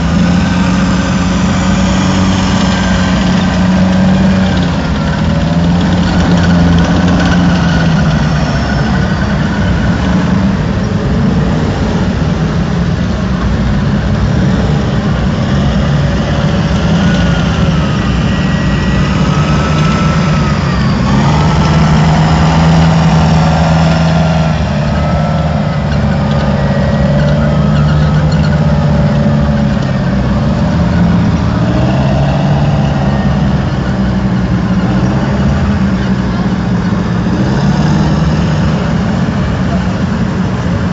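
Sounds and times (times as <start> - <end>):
heavy engine rumble: 0.0 - 40.9
high whine: 0.0 - 40.9.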